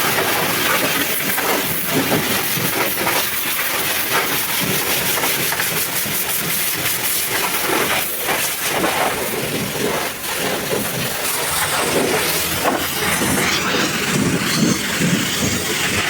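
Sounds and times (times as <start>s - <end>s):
pressure washer spraying water: 0.0s - 16.0s.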